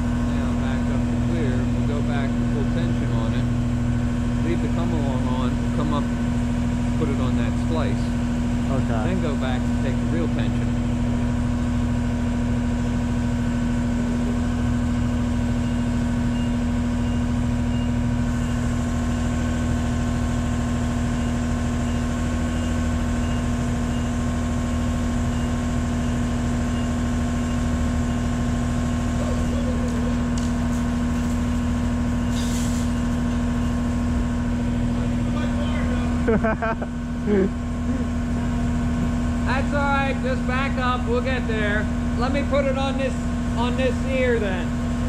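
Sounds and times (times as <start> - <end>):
engine running with steady hum: 0.0 - 45.0.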